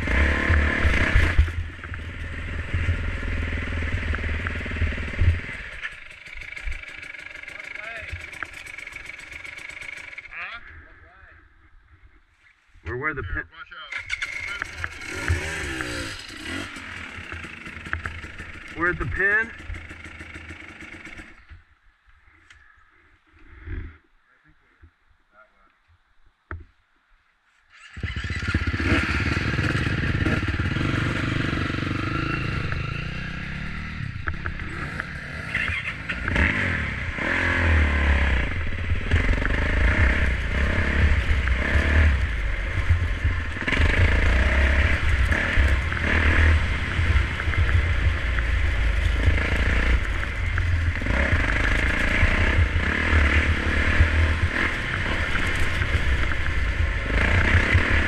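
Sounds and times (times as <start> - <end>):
motorcycle engine running: 0.0 - 10.5, 13.9 - 21.6, 27.8 - 58.0.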